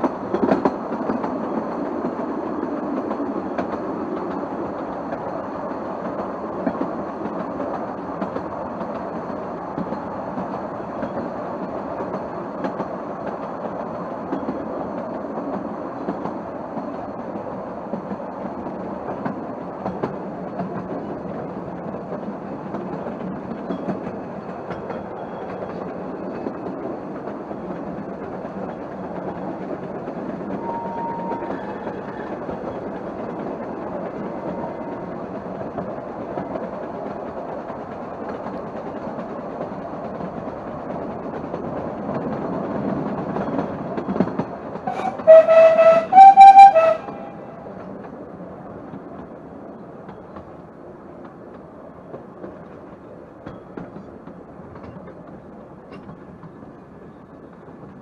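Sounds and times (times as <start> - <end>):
wheels rumbling on track: 0.0 - 58.0.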